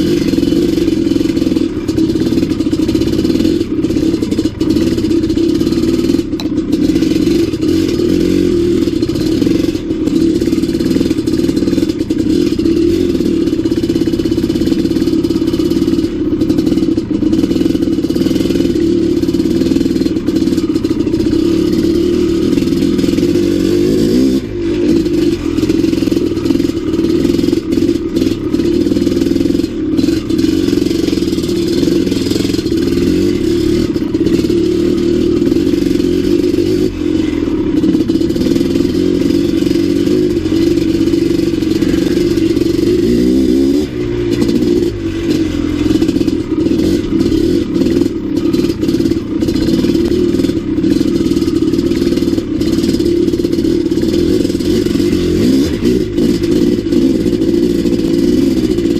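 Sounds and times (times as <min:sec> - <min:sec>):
dirt bike engine running: 0:00.0 - 0:58.9.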